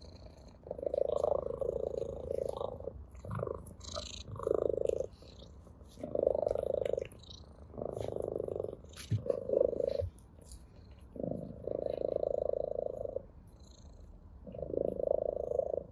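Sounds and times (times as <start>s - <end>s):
cat purring: 0.0s - 15.9s.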